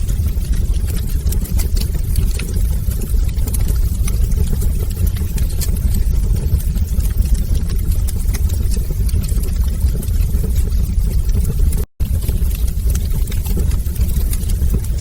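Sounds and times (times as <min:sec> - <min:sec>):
faint fire crackles and pops: 0:00.0 - 0:15.0
fire flames rumbling: 0:00.0 - 0:15.0.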